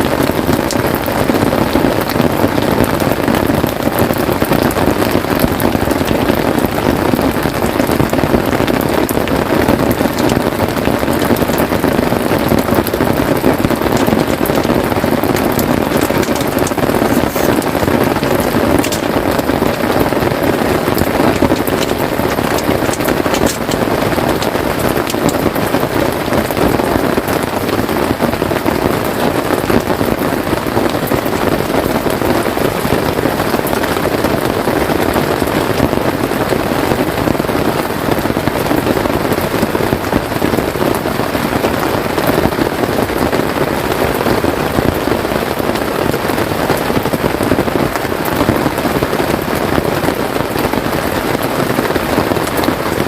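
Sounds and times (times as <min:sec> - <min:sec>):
rain pattering on a tent: 0:00.0 - 0:53.0.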